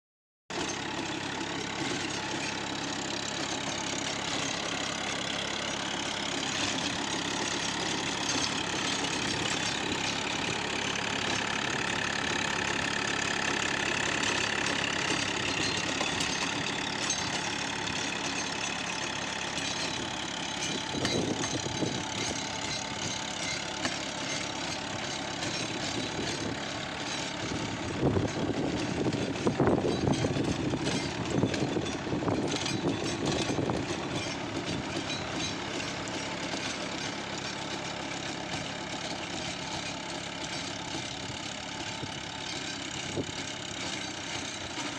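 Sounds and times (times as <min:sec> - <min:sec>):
tractor diesel engine running: 0:00.5 - 0:44.9.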